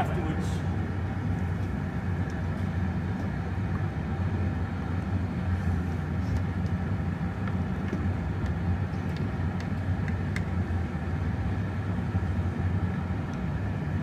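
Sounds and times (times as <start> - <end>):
gas burner roaring: 0.0 - 14.0.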